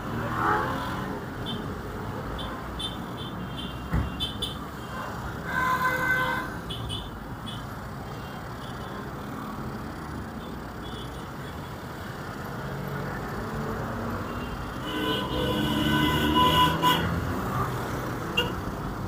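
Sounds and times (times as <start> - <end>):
vehicle engines passing: 0.0 - 19.0.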